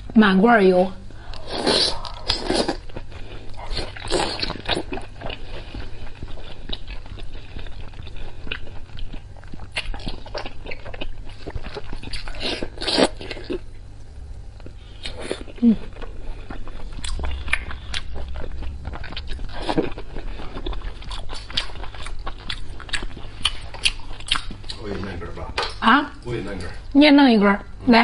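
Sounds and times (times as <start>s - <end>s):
person biting and chewing food: 1.3s - 13.7s, 14.6s - 24.8s.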